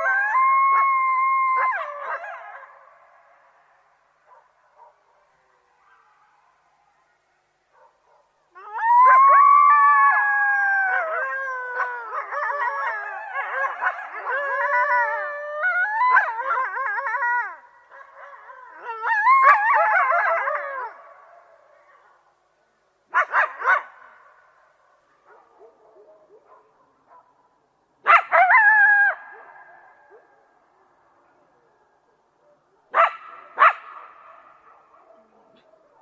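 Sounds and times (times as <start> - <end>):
coyotes howling and yipping: 0.0 - 22.2, 28.0 - 36.0.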